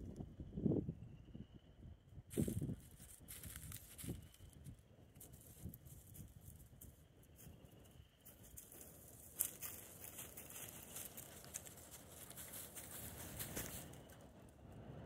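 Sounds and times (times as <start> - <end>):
faint rustling and crackling: 2.3 - 14.5.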